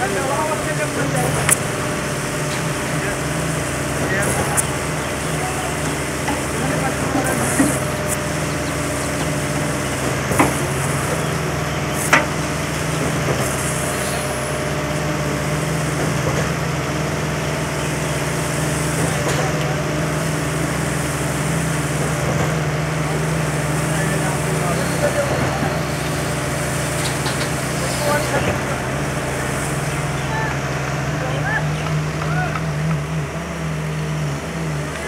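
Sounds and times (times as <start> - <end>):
hoist motor humming: 0.0 - 35.0.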